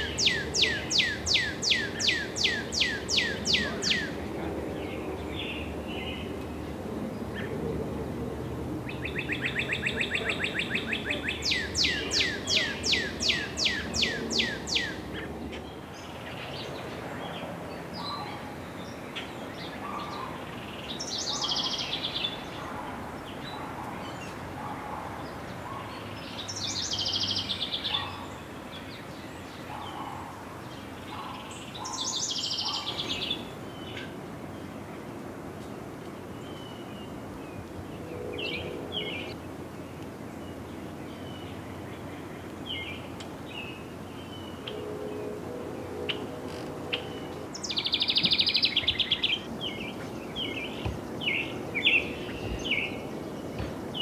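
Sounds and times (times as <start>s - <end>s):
bird song phrase: 0.0s - 7.6s, 8.8s - 34.8s, 36.2s - 54.0s.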